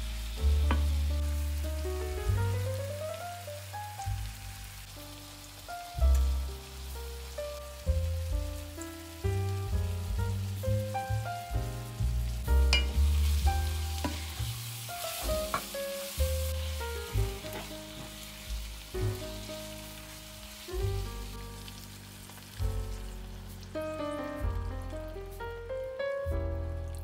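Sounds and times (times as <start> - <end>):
food sizzling in a pan: 0.0 - 27.0
melodic music with bass: 0.0 - 27.0.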